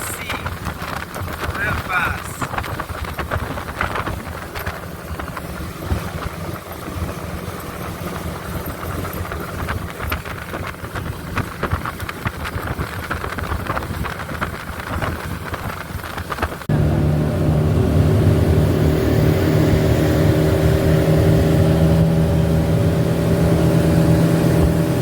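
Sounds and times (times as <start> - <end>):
outboard engine running: 0.0 - 25.0.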